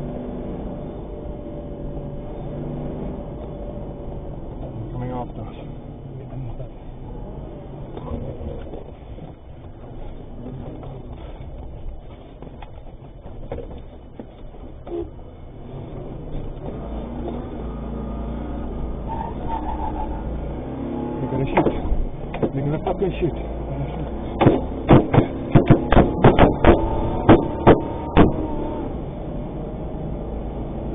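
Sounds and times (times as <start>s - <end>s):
vehicle engine and road noise: 0.0s - 30.9s.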